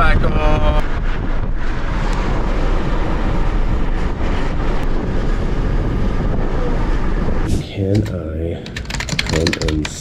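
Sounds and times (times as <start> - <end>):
wind rush and road noise: 0.0 - 10.0.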